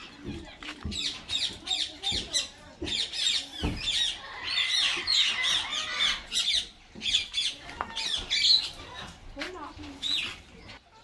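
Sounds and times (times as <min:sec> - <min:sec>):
budgerigars chattering: 0:00.2 - 0:09.1, 0:10.0 - 0:10.5.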